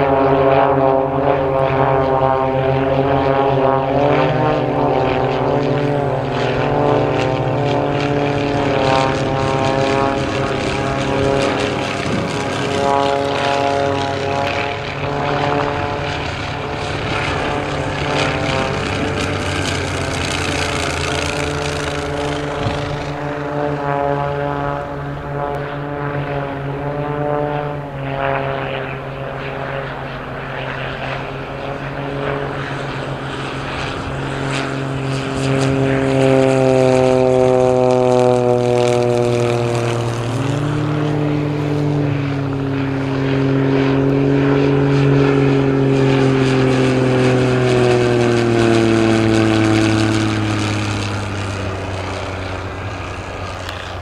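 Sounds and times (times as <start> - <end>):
propeller planes flying past: 0.0 - 54.0.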